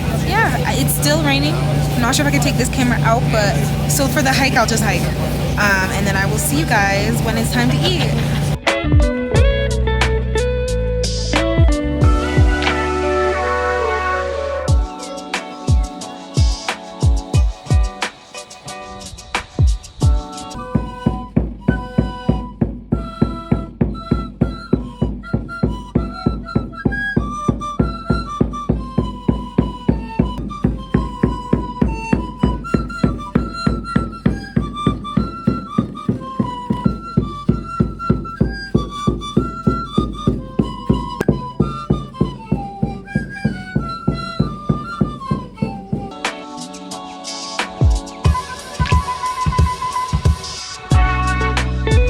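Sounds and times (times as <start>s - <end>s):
steady drum beat: 0.0s - 10.2s, 11.0s - 13.0s, 14.7s - 52.0s
flute-like melody: 0.0s - 52.0s.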